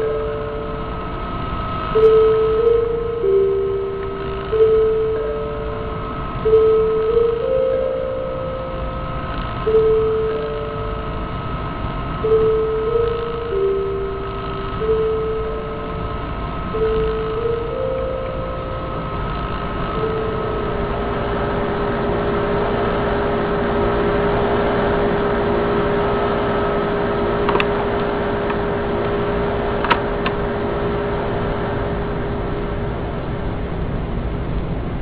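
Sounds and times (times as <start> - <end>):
held tone: 0.0 - 33.4
telephone line hiss and hum: 0.0 - 35.0.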